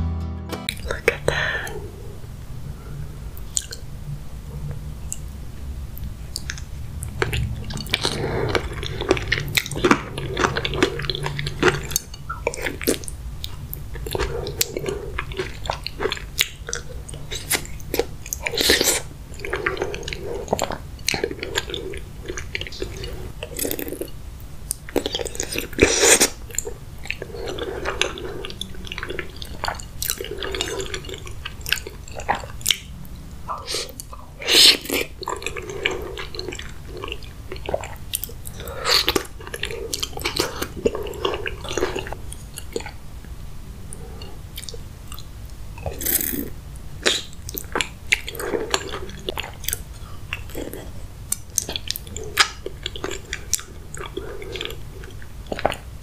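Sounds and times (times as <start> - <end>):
person chewing: 3.4 - 3.9, 6.0 - 56.0.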